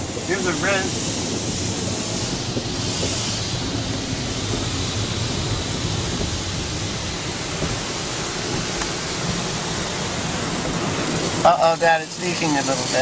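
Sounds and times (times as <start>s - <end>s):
car wash spraying water: 0.0s - 13.0s.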